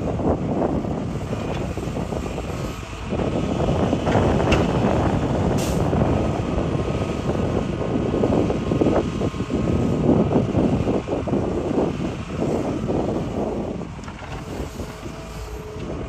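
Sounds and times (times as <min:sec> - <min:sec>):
excavator diesel engine under load: 0:00.0 - 0:16.0.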